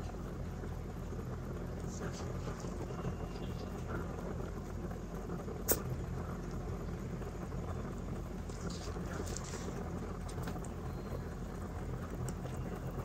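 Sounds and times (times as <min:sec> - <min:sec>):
steady low hum: 0:00.0 - 0:13.0
rabbits chewing hay: 0:01.1 - 0:13.0.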